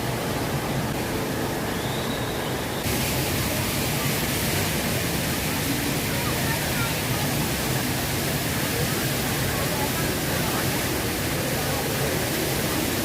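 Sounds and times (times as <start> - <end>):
indoor waterfall pouring: 0.0 - 13.0.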